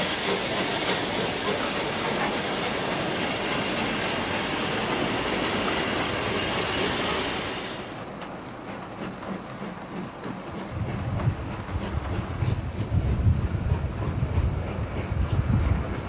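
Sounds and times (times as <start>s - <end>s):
steam train rushing: 0.0s - 16.0s.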